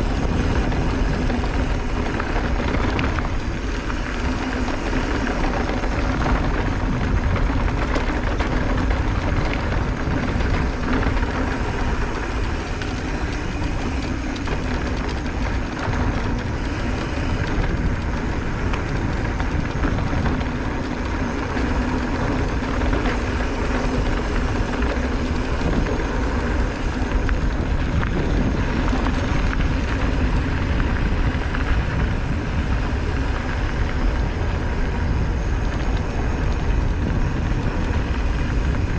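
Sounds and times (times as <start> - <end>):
bike rattles and clicks: 0.0 - 38.9
tyres rumbling on dirt: 0.0 - 38.9.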